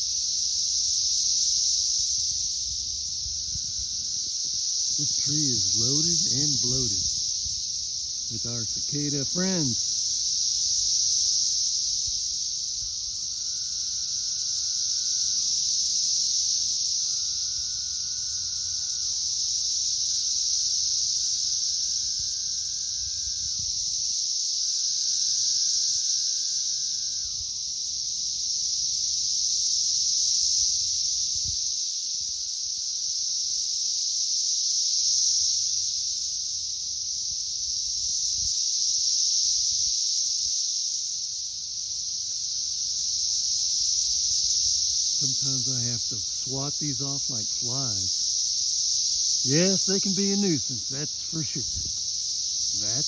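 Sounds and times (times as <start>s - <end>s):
cicadas high-pitched drone: 0.0s - 53.0s
low drawn-out cicada calls: 0.0s - 53.0s.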